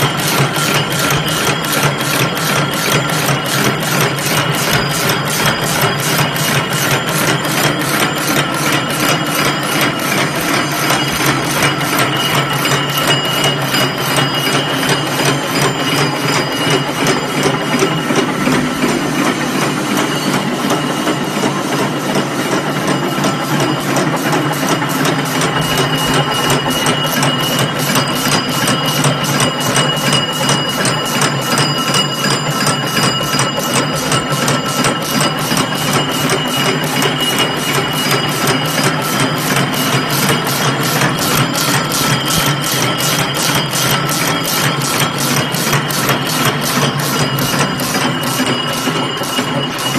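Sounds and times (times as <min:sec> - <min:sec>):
wire machine clattering: 0:00.0 - 0:49.9.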